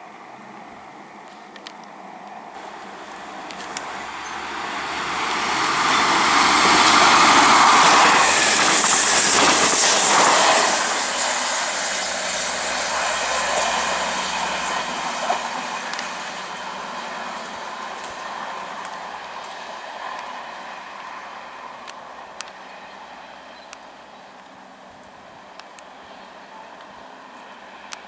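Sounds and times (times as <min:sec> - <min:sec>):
diesel train passing: 0:02.0 - 0:28.0.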